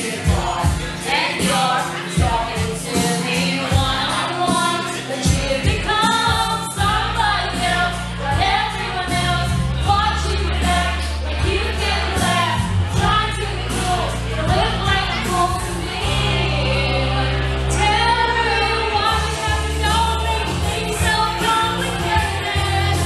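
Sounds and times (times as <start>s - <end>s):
backing track with bass line: 0.0s - 23.0s
woman singing karaoke: 0.0s - 23.0s.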